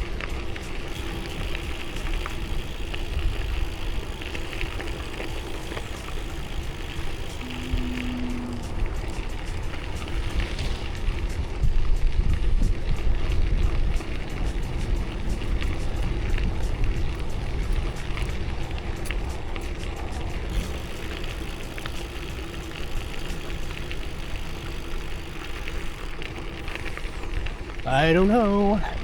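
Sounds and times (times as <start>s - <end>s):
wind rushing over microphone: 0.0s - 26.1s
fine clicks or crackles: 0.0s - 29.0s.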